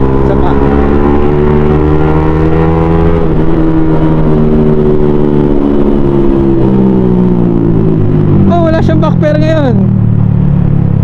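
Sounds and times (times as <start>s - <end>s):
motorcycle engine running at speed: 0.0s - 11.0s.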